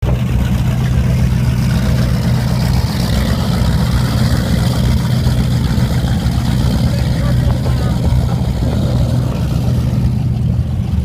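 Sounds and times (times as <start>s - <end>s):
powerboat engine droning: 0.0s - 11.0s.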